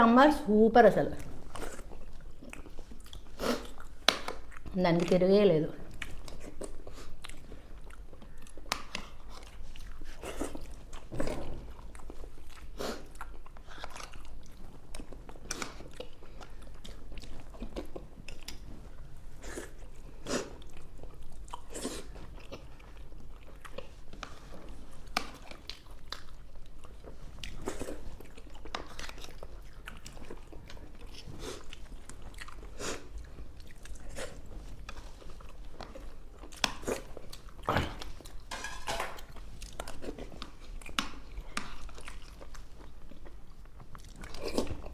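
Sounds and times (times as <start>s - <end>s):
wet chewing and mouth smacks: 1.2s - 5.2s, 5.8s - 44.9s.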